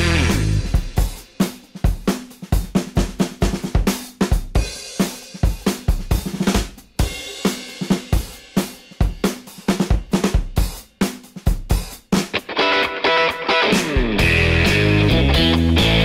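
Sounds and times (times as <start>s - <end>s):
drum kit playing a busy beat: 0.0s - 16.0s.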